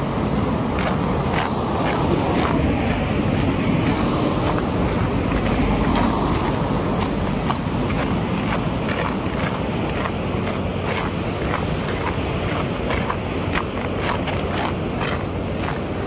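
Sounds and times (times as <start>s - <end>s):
wind buffeting microphone: 0.0s - 16.0s
walking footsteps: 0.8s - 16.0s.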